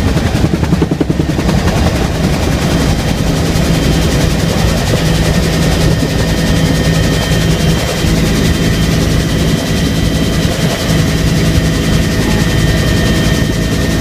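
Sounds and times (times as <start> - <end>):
helicopter rotor and engine drone: 0.0 - 14.0
high turbine whine: 0.0 - 14.0.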